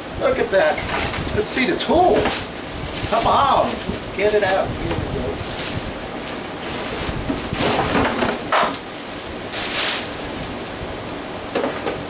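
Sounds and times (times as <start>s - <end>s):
packaging rustling and scraping: 0.7s - 12.0s.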